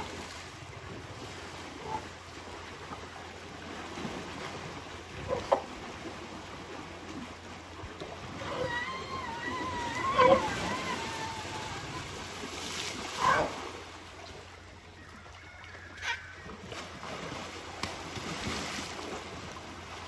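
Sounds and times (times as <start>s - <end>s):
elephants splashing in water: 0.0s - 14.5s, 15.4s - 20.0s.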